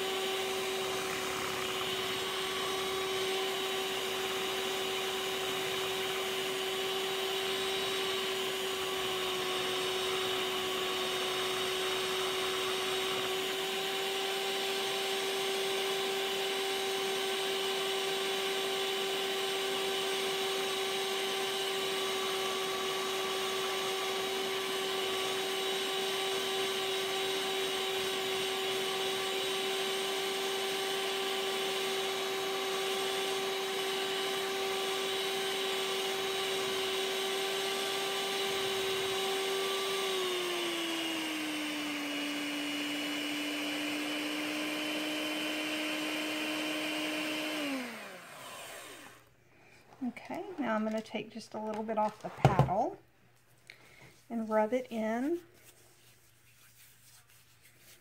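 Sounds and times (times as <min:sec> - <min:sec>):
electric hand mixer whine: 0:00.0 - 0:49.3.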